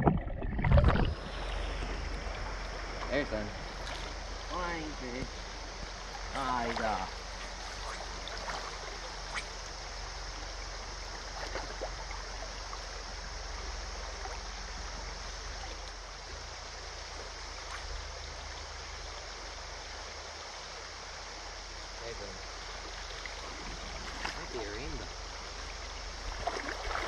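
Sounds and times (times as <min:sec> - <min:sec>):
creek flowing over stones: 0:00.0 - 0:27.0.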